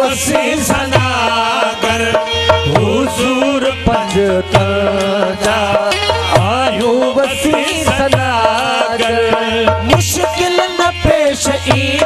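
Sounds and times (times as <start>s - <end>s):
hand drum beat: 2.2s - 12.0s.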